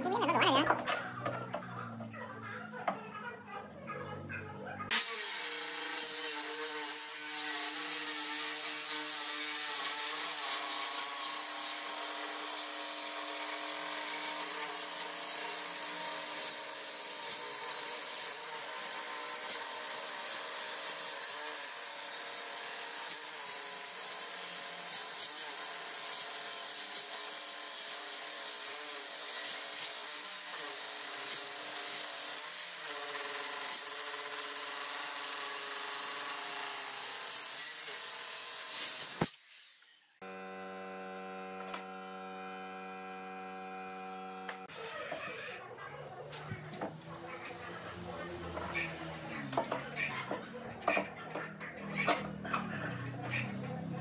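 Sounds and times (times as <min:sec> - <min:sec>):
circular saw cutting wood: 0:04.9 - 0:45.7, 0:47.2 - 0:51.1.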